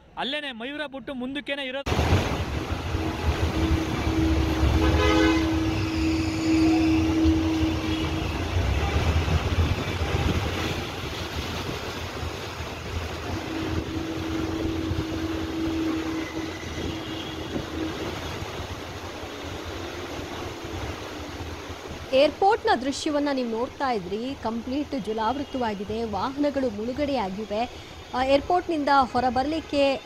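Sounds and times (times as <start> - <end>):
floodwater rushing: 1.9 - 30.0.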